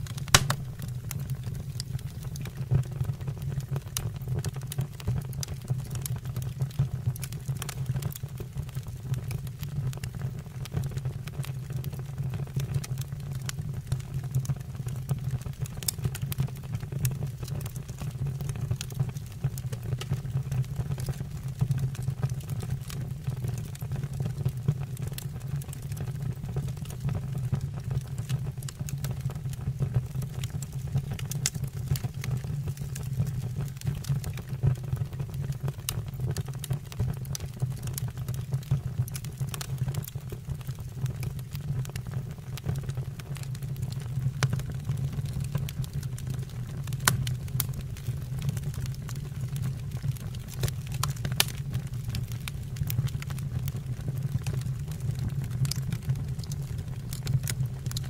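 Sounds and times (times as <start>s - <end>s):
burning wood crackling: 0.0s - 58.0s
fire rumbling: 0.0s - 58.0s.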